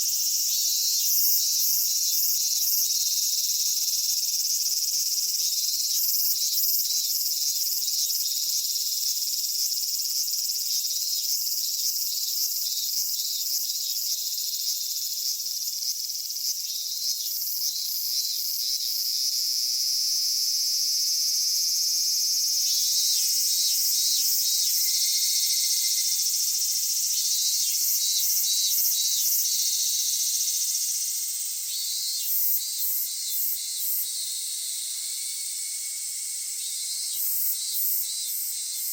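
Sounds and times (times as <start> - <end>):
cicadas buzzing: 0.0 - 38.9
pulsing cicada calls: 0.0 - 38.9.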